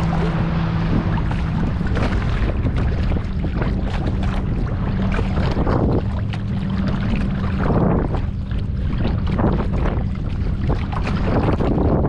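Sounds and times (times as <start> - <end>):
low steady hum: 0.0 - 12.0
water splashing against hull: 0.0 - 12.0
wind buffeting microphone: 0.0 - 12.0.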